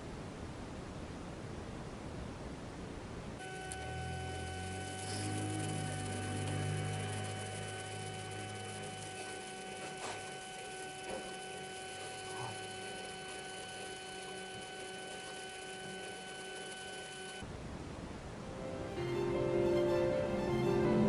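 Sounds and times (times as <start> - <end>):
electrical hum with whine: 0.0 - 21.0.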